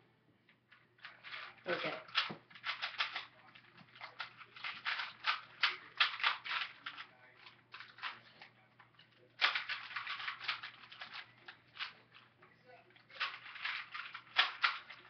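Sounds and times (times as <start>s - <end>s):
plastic puzzle cubes clicking: 1.0s - 8.4s, 9.4s - 12.2s, 13.1s - 15.0s.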